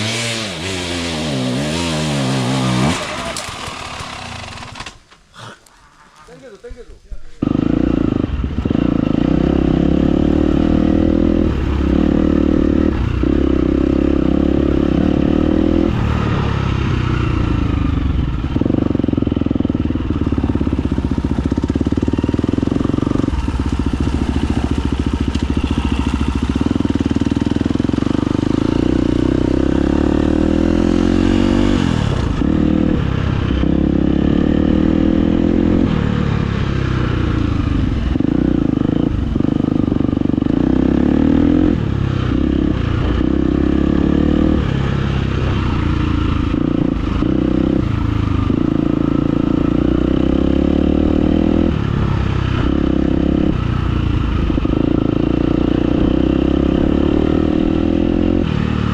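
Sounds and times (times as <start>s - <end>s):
dirt bike engine revving: 0.0s - 5.0s, 7.4s - 58.9s.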